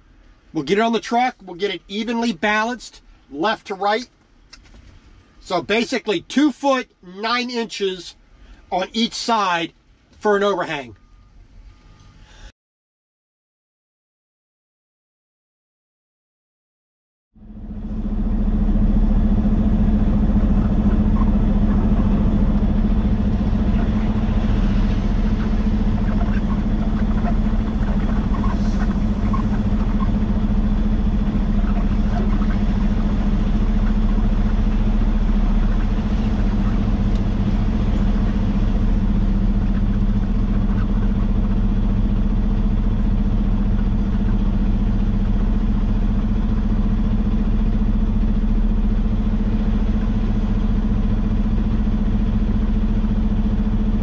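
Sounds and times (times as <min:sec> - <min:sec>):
truck diesel engine idling: 0:00.0 - 0:12.2, 0:17.4 - 0:54.0.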